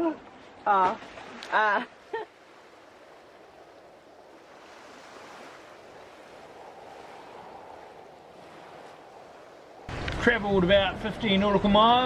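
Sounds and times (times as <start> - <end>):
sea water rushing past a boat: 0.0 - 12.0.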